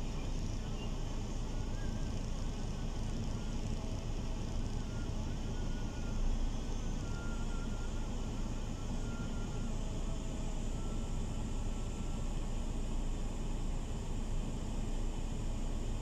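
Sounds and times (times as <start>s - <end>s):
faint thin wavering tone: 0.0s - 13.9s.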